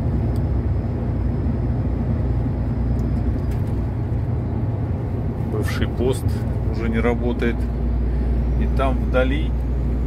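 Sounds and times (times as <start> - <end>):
road rumble: 0.0 - 10.0
truck engine drone: 0.0 - 10.0.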